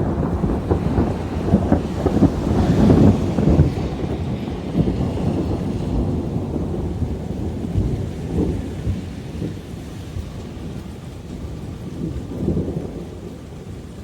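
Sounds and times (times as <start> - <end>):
rain falling: 0.0 - 14.0
rolling thunder rumbling: 0.0 - 14.0.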